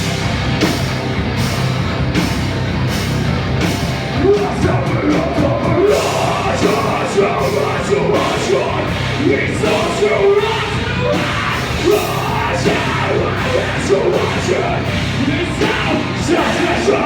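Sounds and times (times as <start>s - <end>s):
distorted guitar: 0.0s - 17.0s
drums: 0.0s - 17.0s.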